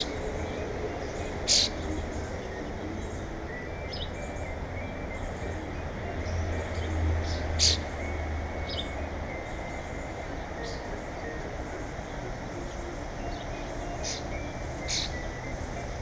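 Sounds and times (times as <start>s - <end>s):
distant traffic rumble: 0.0s - 16.0s
songbirds chip calls: 0.0s - 16.0s.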